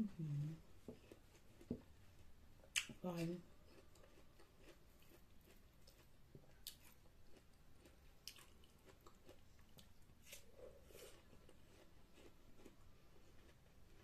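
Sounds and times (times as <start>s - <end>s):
chewing watermelon: 0.8s - 14.0s.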